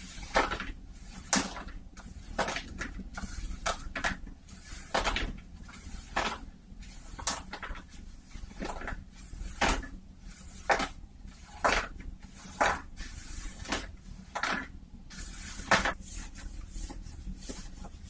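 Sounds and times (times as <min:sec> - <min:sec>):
cloth hat scratched and rubbed: 0:02.0 - 0:14.5, 0:15.1 - 0:18.0.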